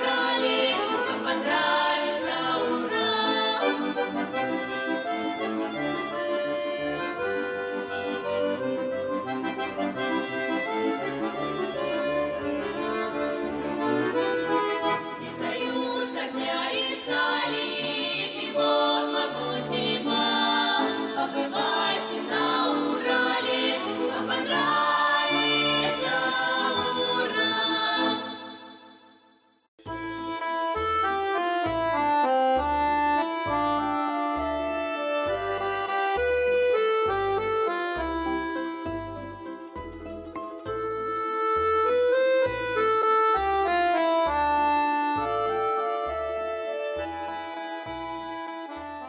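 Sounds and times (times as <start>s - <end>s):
folk music with accordion: 0.0s - 28.9s, 29.8s - 49.0s.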